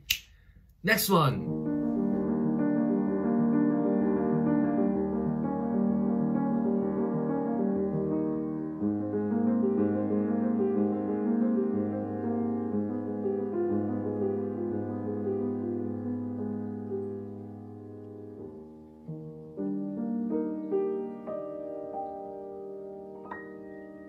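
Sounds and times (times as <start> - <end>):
piano chords: 0.8 - 24.0.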